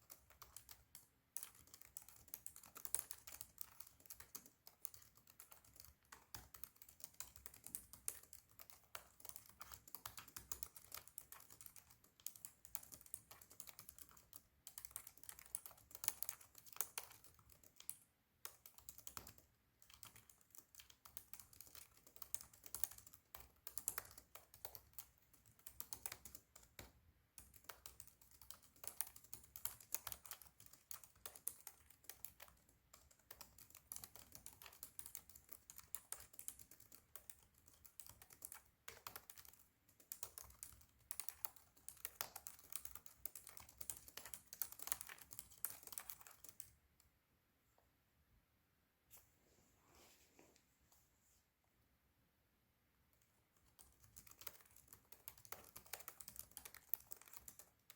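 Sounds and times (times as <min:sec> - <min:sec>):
fast typing on laptop keyboard: 0:00.0 - 0:46.8, 0:53.2 - 0:57.9.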